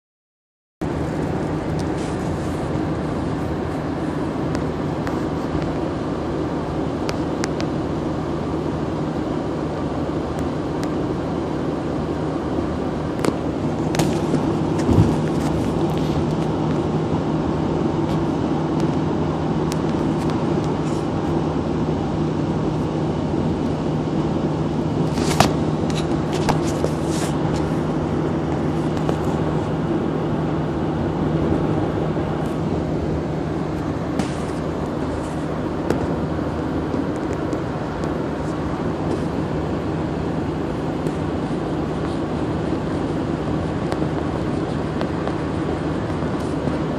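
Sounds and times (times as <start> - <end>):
car driving on highway: 0.8 - 46.9.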